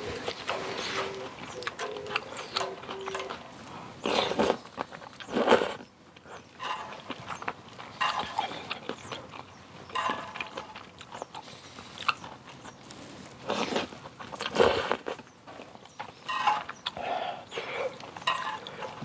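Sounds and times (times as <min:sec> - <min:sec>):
person chewing and crunching: 0:00.0 - 0:19.0.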